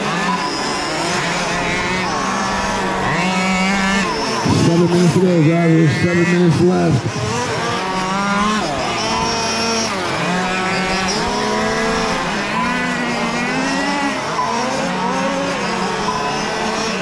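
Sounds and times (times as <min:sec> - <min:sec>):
radio-controlled car engines revving: 0:00.0 - 0:17.0.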